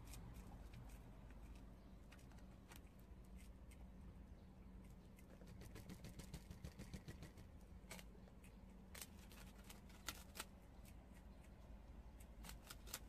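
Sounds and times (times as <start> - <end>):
prairie dogs crunching rice cakes: 0.0 - 13.0.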